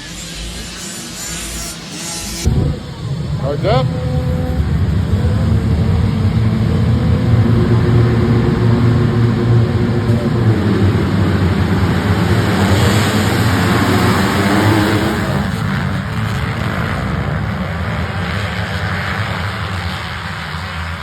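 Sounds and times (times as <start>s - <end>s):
dirt bike engines running hard: 2.4s - 21.0s.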